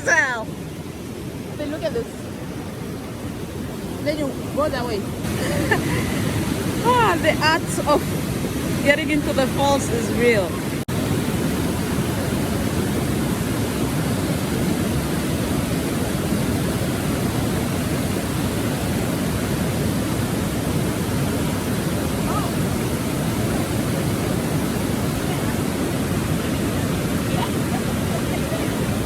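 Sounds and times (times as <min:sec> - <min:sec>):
rushing water of rapids: 0:00.0 - 0:29.0.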